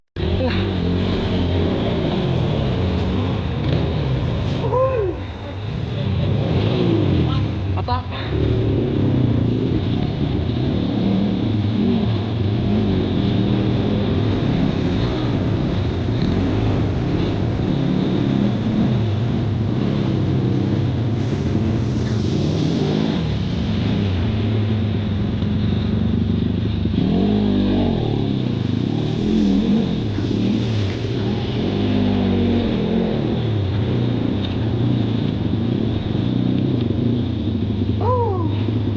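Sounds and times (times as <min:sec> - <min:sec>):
dirt bike engine revving: 0:00.2 - 0:04.7, 0:06.0 - 0:24.7, 0:26.1 - 0:38.9.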